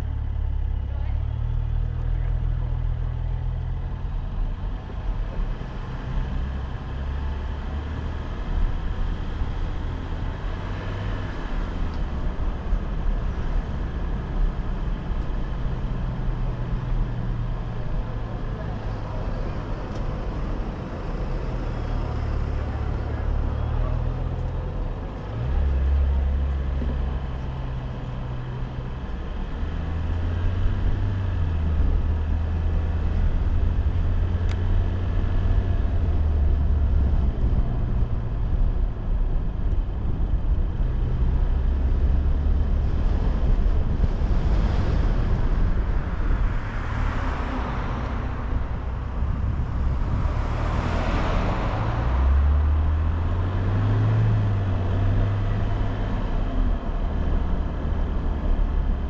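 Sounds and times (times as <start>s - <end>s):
car driving slowly: 0.0s - 59.0s.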